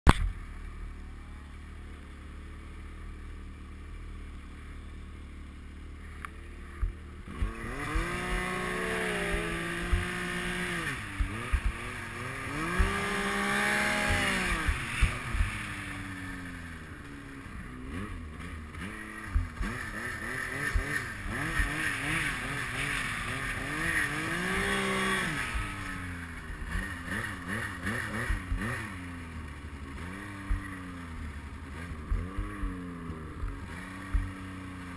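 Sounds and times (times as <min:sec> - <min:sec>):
snowmobile engine revving: 0:04.6 - 0:34.9.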